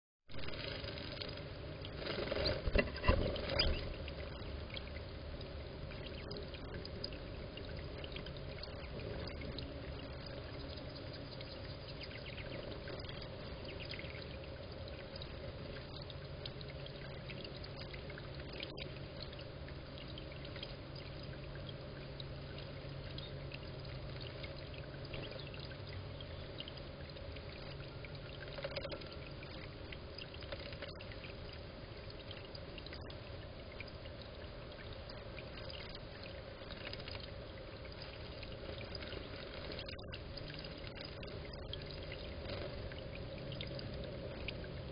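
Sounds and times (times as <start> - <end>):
fountain water trickling and splashing: 0.4 - 44.9.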